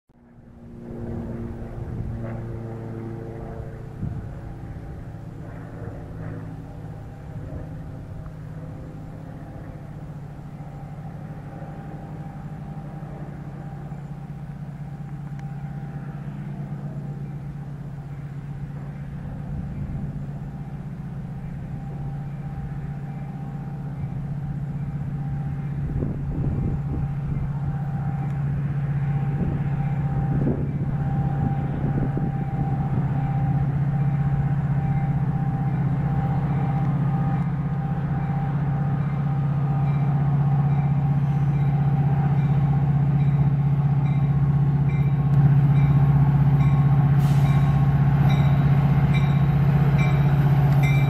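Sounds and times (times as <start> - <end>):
diesel locomotive drone: 0.1 - 51.0
train rumbling on rails: 0.2 - 51.0.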